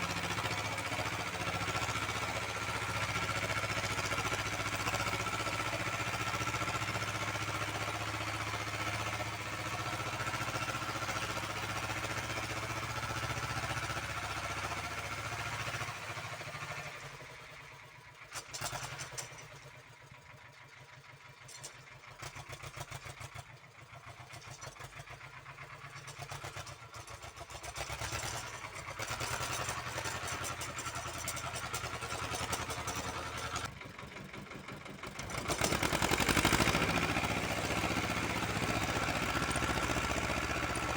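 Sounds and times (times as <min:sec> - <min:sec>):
walk-behind tractor engine running: 0:00.0 - 0:40.9.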